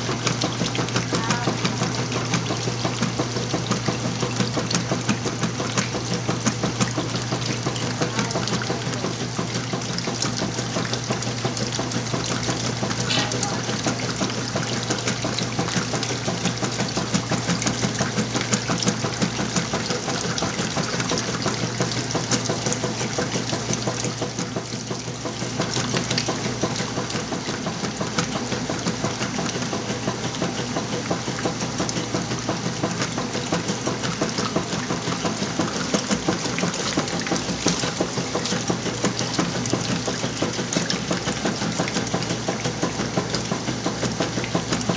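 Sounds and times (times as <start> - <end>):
washing machine motor running: 0.0 - 44.9
water churning: 0.0 - 44.9.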